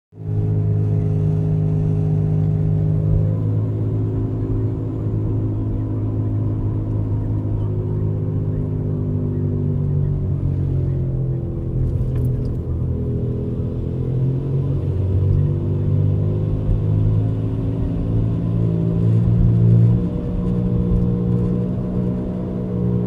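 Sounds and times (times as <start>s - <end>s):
car droning rumble while driving: 0.2s - 23.0s.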